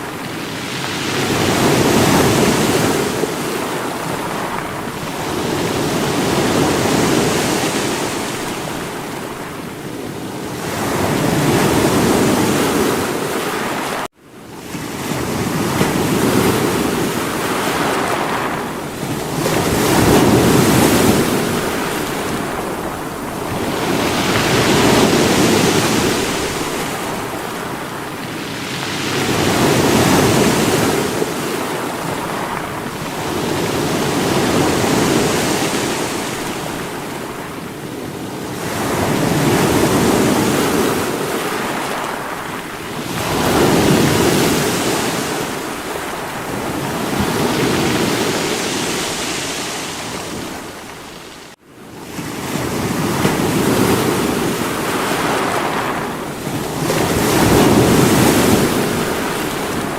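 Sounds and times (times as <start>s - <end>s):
sea waves breaking on rocks: 0.0s - 14.1s, 14.7s - 51.6s, 52.2s - 59.9s.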